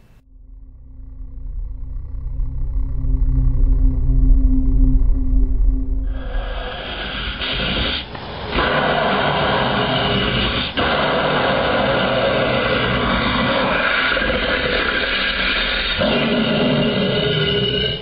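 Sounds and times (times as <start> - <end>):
horror sound effects noise: 0.0 - 18.0.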